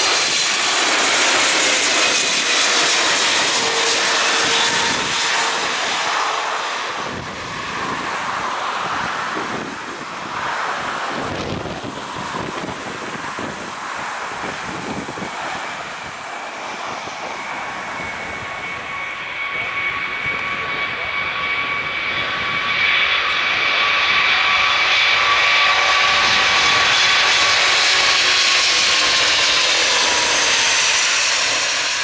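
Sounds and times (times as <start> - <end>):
jet airliner engines whining: 0.0 - 32.0.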